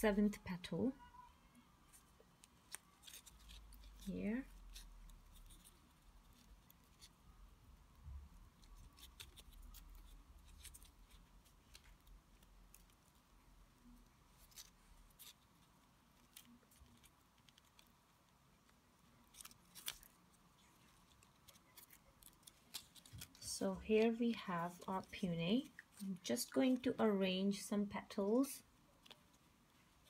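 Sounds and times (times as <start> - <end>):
small clicks and rustles of tape: 1.9 - 7.2, 7.9 - 27.0, 28.8 - 30.0.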